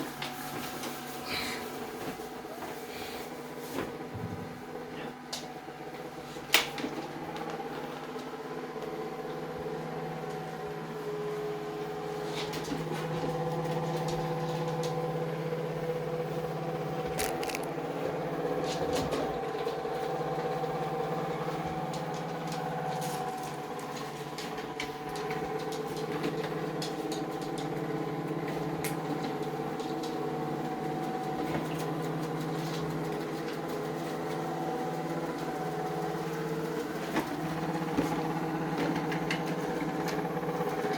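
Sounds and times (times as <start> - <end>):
vacuum cleaner motor humming: 0.0 - 40.9.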